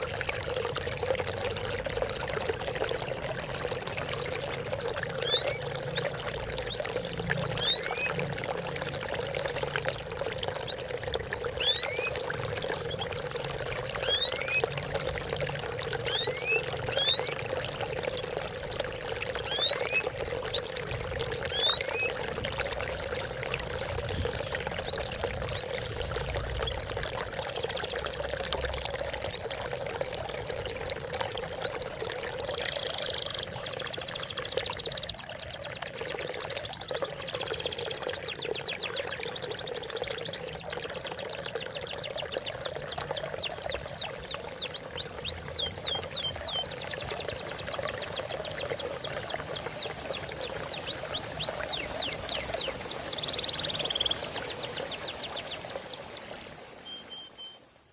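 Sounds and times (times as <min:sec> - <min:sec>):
water trickling and pouring: 0:00.0 - 0:57.9.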